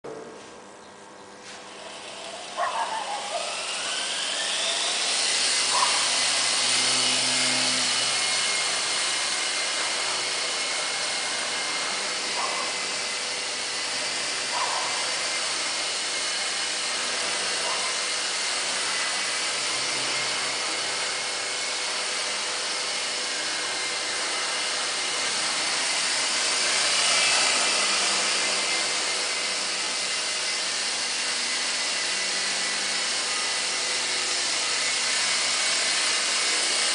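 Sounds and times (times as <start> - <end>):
toy helicopter motor whining: 1.4 - 36.9.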